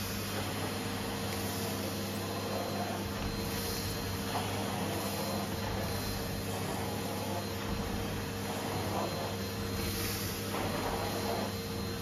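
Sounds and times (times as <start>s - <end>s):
vacuum cleaner on carpet: 0.0s - 12.0s.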